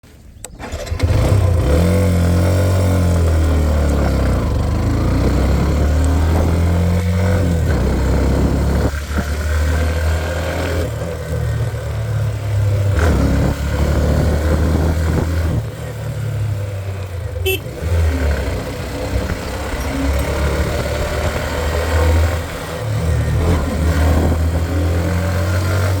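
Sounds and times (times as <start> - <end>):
motorcycle engine under load: 0.2 - 26.0.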